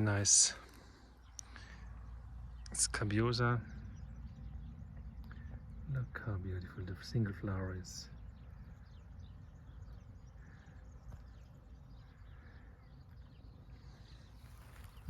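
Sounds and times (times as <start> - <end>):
faint high chirps and ticks: 0.0 - 15.0
low rumble: 0.0 - 15.0.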